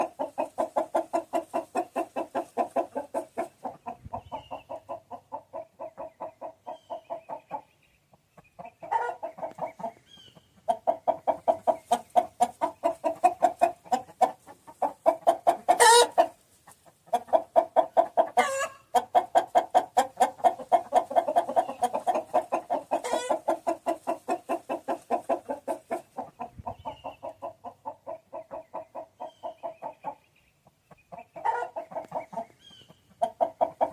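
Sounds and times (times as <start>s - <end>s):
chicken clucking: 0.0s - 33.9s
chicken sharp calls: 0.0s - 33.9s.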